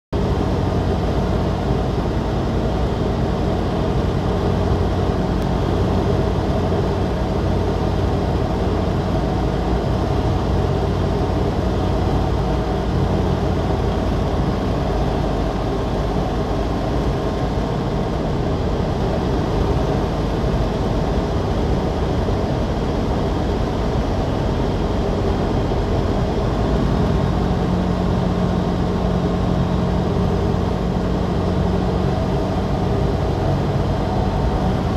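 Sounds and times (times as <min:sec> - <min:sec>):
aircraft engine and propeller drone: 0:00.2 - 0:34.9
wind noise: 0:00.2 - 0:34.9.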